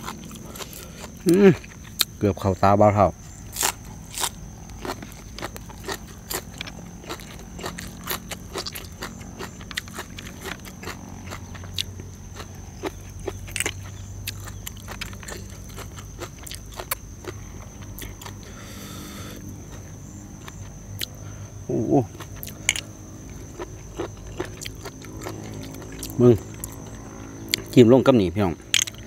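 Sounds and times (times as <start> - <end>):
food crunching while chewed: 0.0 - 2.2, 3.3 - 21.3, 22.1 - 27.8, 28.6 - 29.0.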